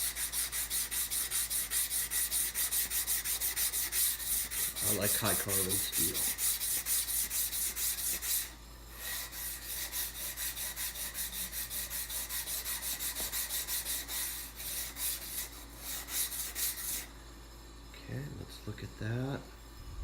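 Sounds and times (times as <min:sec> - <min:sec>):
knife scraping on a whetstone: 0:00.0 - 0:17.1.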